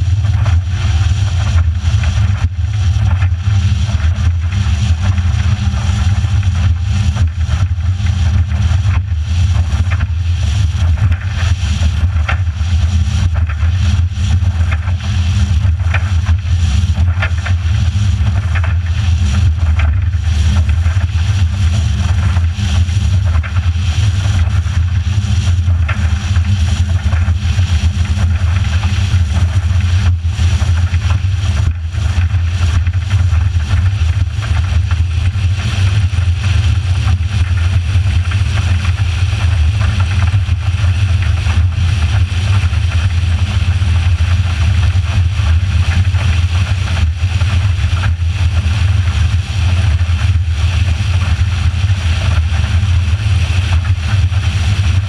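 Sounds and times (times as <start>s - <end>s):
motorboat engine drone: 0.0s - 55.0s
rush of wind and water: 0.0s - 55.0s.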